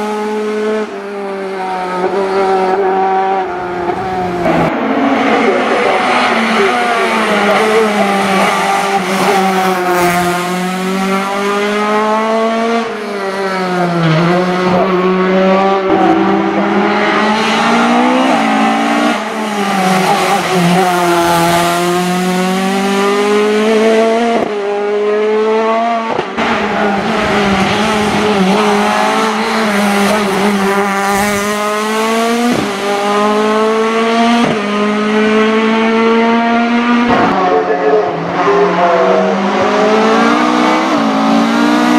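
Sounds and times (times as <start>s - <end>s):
racing engine at full throttle: 0.0s - 41.9s.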